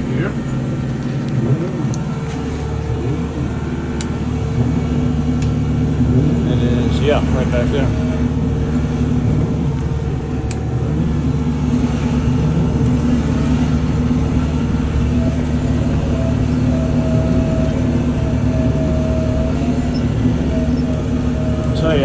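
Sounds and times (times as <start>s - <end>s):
thin high whine: 0.0s - 22.0s
tractor diesel engine running: 0.0s - 22.0s.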